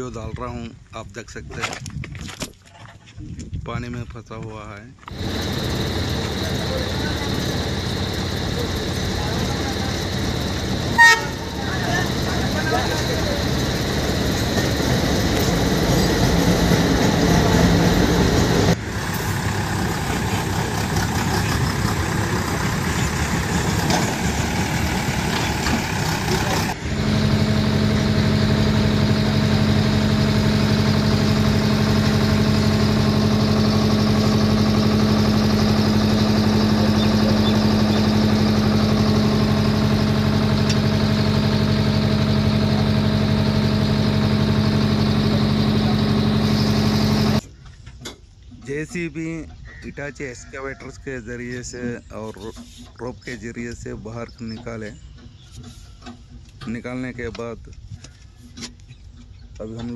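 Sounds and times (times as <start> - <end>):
diesel excavator engines running: 3.8 - 59.9.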